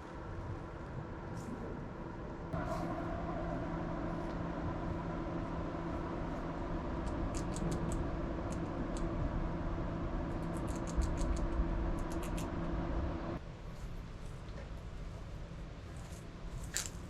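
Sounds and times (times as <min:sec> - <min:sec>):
steady low hum: 0:00.1 - 0:16.7.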